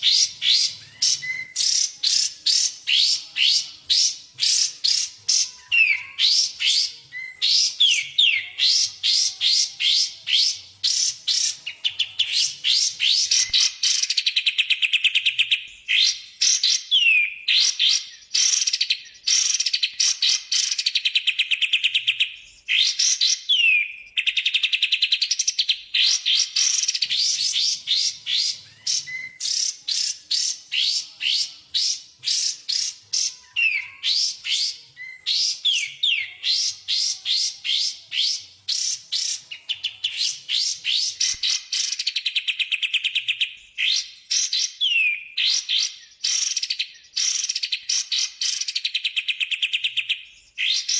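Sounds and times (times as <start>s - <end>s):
down-slurred bird whistles: 0.0s - 50.9s
high bird chirps: 0.0s - 50.9s.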